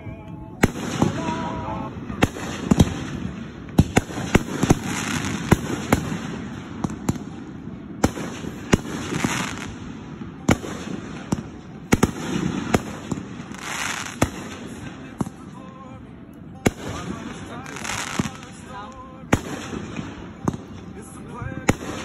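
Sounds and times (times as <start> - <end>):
fireworks bangs: 0.0 - 15.8, 16.6 - 22.0
fireworks crackling: 0.0 - 22.0.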